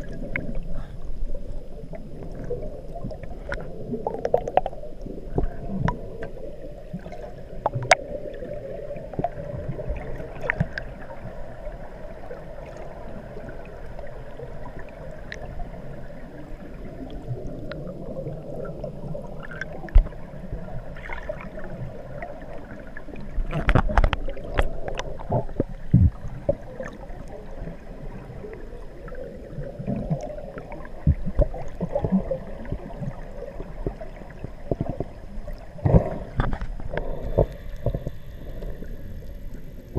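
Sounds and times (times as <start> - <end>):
underwater air bubbles gurgling: 0.0 - 39.9.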